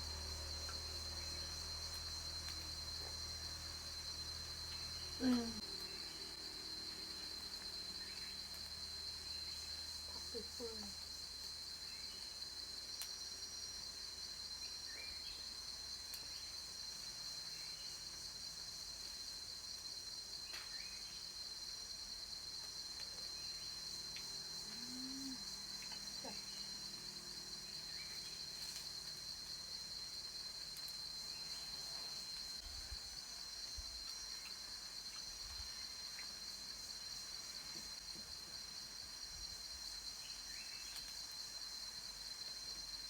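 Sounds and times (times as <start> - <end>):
cicadas droning: 0.0 - 43.0.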